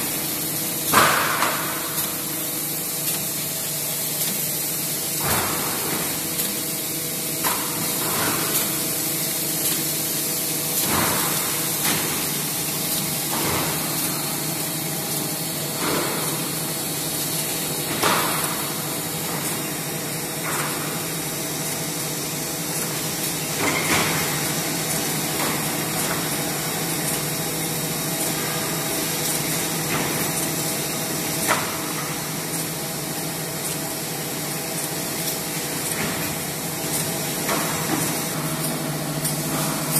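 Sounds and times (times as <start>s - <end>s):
machine humming and hissing: 0.0s - 39.9s.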